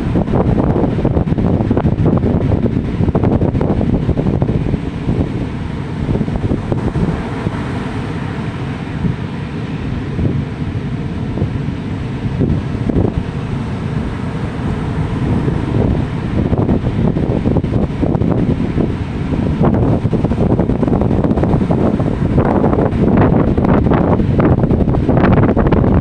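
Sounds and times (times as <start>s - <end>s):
ocean surf: 0.0s - 26.0s
wind buffeting microphone: 0.0s - 26.0s.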